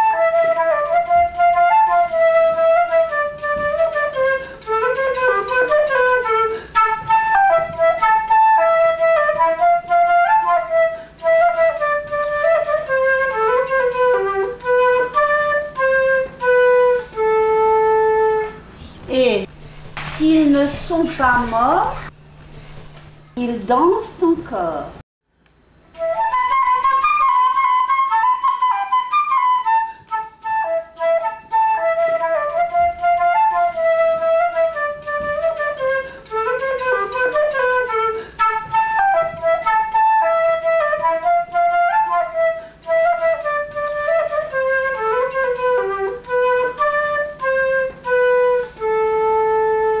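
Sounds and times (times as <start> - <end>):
solo flute melody: 0.0 - 19.0, 25.9 - 50.0.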